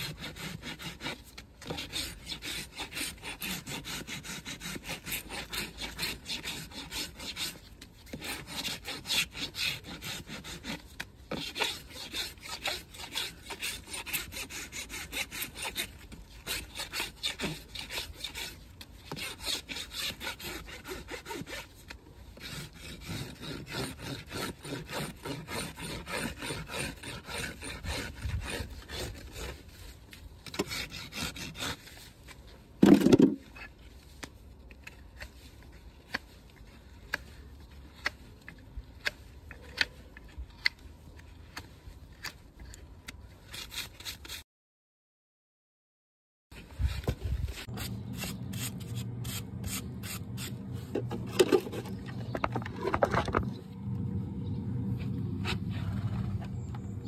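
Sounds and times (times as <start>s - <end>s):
rasp scraping a hoof: 0.0s - 44.4s, 46.5s - 53.6s, 55.0s - 57.0s.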